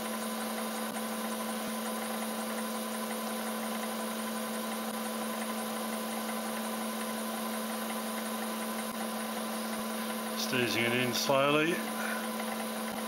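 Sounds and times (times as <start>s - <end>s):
milling machine humming: 0.0s - 13.0s.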